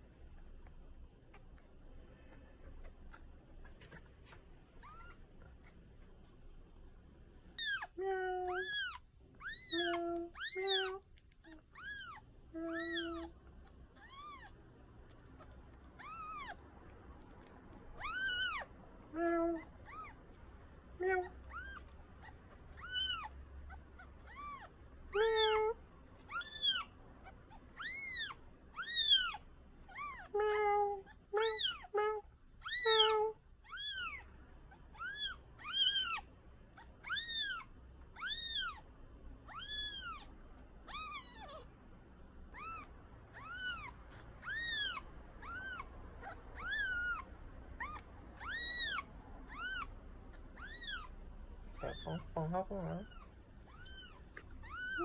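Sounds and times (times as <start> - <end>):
kitten mewing: 1.2 - 6.0, 7.5 - 16.7, 17.4 - 20.3, 21.0 - 41.7, 42.5 - 55.0.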